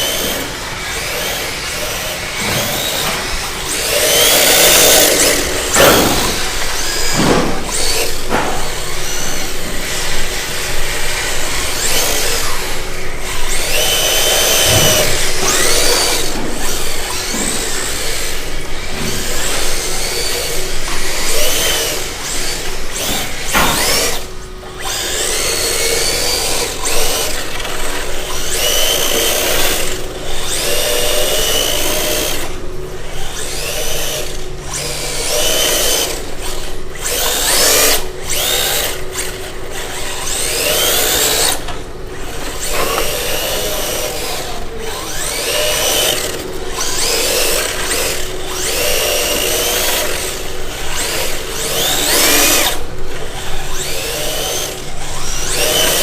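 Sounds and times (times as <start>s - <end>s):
electric motor whining: 0.0s - 56.0s.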